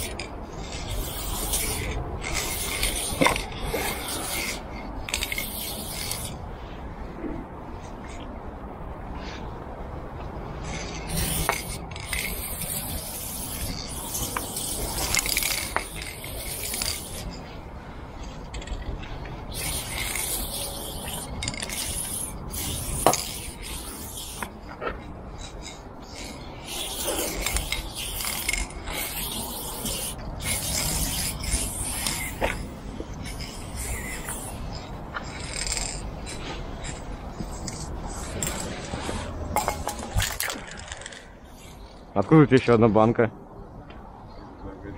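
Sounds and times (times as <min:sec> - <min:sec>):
spray paint can hissing: 0:00.0 - 0:06.4, 0:10.5 - 0:17.6, 0:18.2 - 0:42.0.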